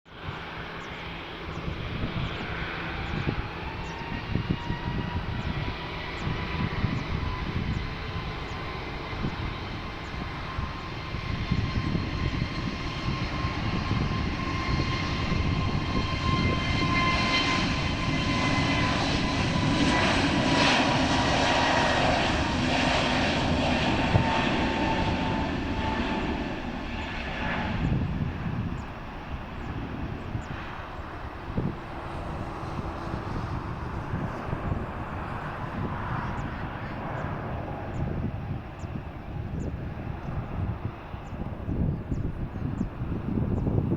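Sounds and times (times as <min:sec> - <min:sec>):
jet engines whining at takeoff: 0:00.1 - 0:43.9.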